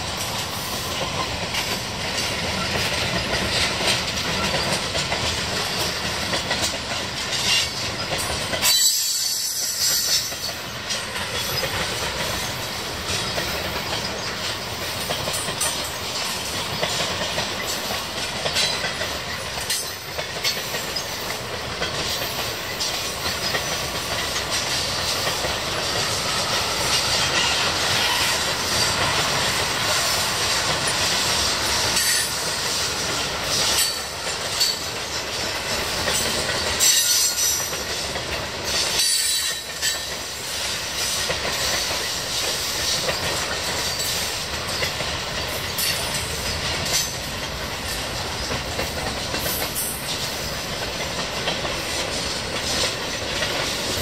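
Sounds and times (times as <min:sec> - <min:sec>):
train wheels rumbling on rail: 0:00.0 - 0:54.0
clicks at rail joints: 0:00.2 - 0:54.0.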